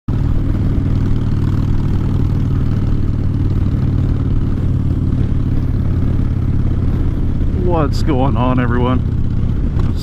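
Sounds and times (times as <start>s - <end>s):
motorcycle engine rumbling: 0.1s - 10.0s.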